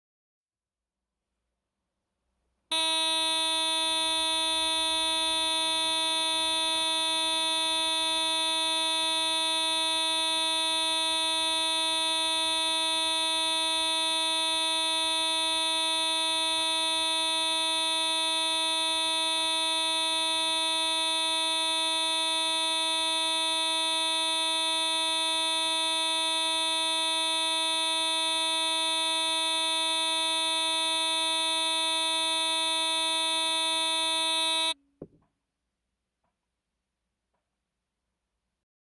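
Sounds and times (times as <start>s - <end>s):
car horn long steady note: 2.7s - 34.8s.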